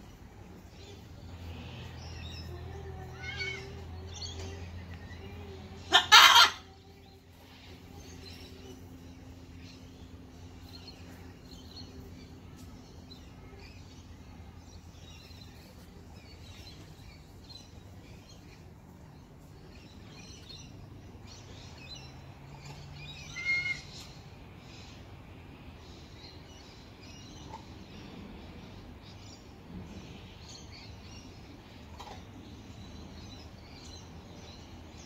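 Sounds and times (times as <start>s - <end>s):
wild birds chirping and chattering: 0.0s - 35.0s.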